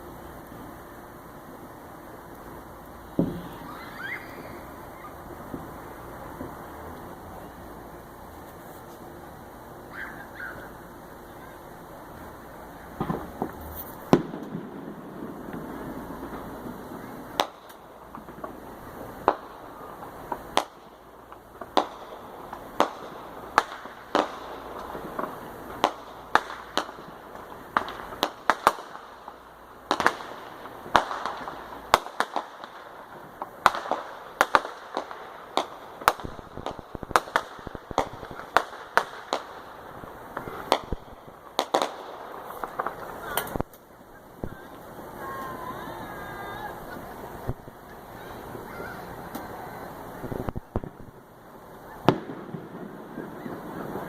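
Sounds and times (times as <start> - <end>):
fireworks bangs and pops: 0.0 - 54.0
steady crackling hiss: 0.0 - 54.0.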